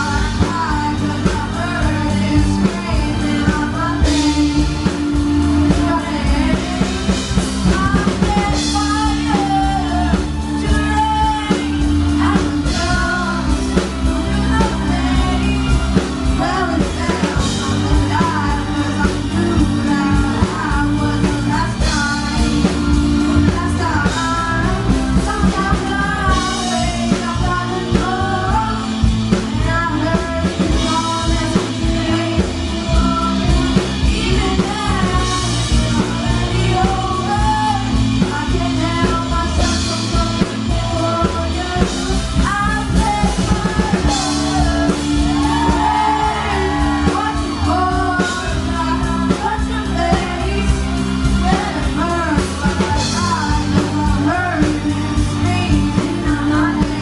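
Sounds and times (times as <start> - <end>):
drum kit: 0.0 - 57.0
guitar: 0.0 - 57.0
person singing: 0.0 - 57.0.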